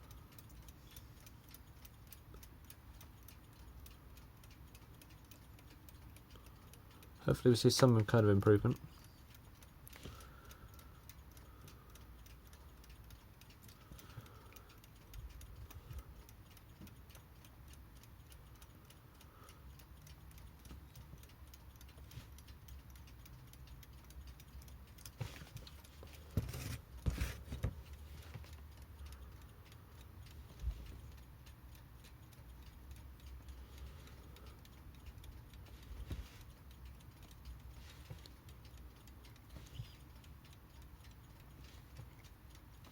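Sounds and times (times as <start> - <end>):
clock ticking faintly: 0.0 - 42.9.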